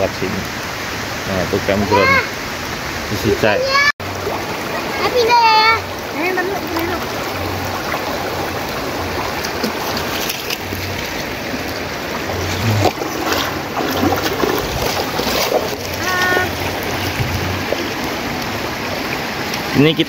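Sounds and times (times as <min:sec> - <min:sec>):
river rushing over rocks: 0:00.0 - 0:20.0
small water splashes: 0:00.0 - 0:20.0.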